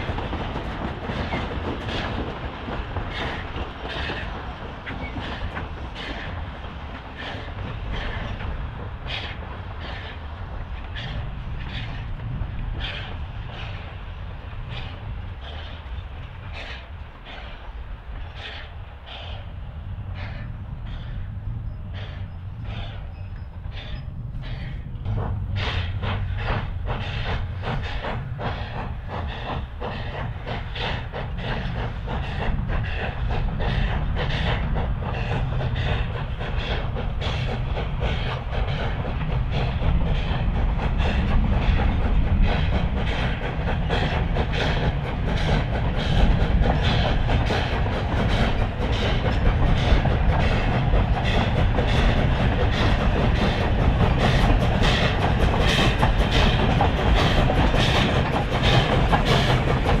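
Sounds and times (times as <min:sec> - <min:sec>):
steam locomotive exhaust chuff: 0:00.0 - 1:00.0
train wheels clicking over rail joints: 0:00.0 - 1:00.0.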